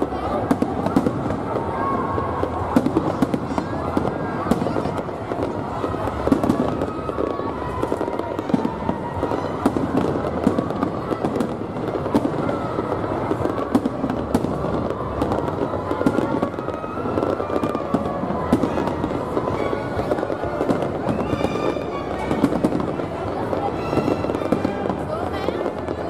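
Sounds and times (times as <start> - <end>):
fireworks bangs and pops: 0.0 - 26.0.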